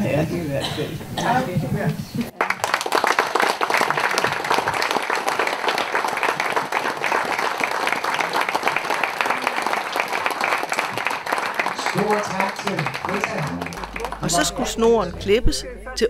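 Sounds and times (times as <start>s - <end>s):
audience clapping: 2.3s - 15.2s.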